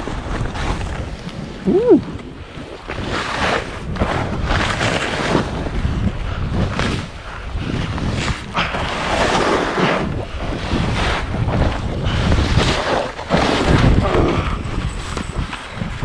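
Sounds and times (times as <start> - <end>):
skis scraping over snow: 0.0 - 16.0
wind buffeting microphone: 0.0 - 16.0.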